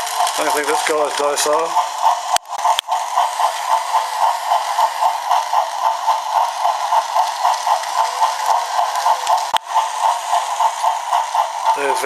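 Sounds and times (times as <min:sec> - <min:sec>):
rhythmic plastic clatter: 0:00.0 - 0:12.0
toy motors whirring: 0:00.0 - 0:12.0.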